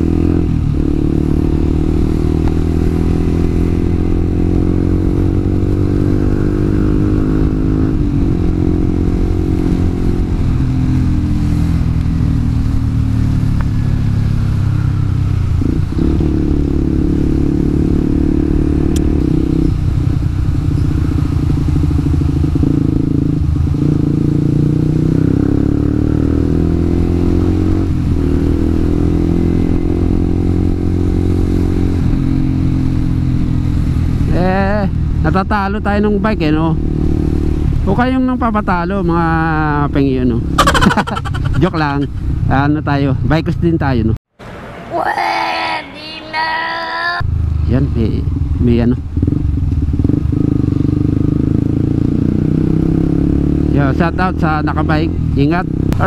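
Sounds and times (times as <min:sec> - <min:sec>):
motorcycle engine revving: 0:00.0 - 0:43.4, 0:47.2 - 0:56.0.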